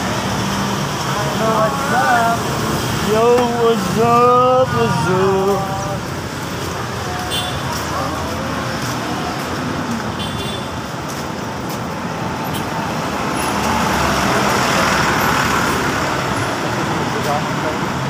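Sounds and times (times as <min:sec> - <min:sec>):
passing motor vehicles: 0:00.0 - 0:18.0.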